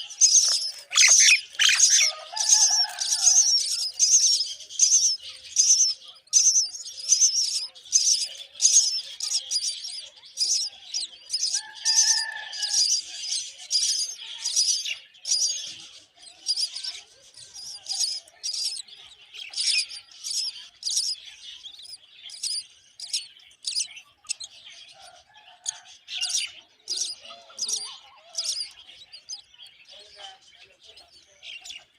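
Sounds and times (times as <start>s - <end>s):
nestlings begging calls: 0.0s - 31.9s.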